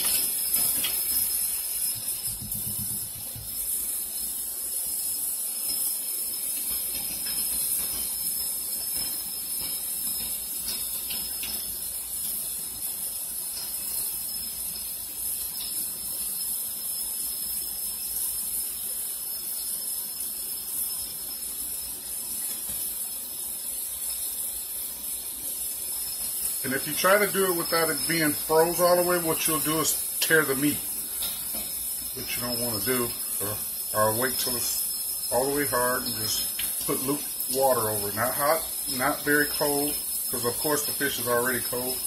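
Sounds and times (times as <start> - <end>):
faucet running water into sink: 0.0 - 42.0
thin high whine: 0.0 - 42.0.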